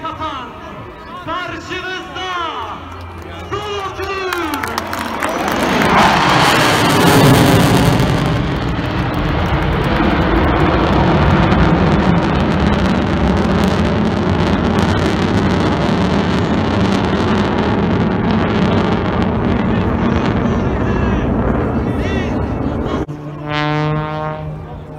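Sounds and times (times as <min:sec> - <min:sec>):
fighter jet roaring overhead: 0:02.0 - 0:24.9.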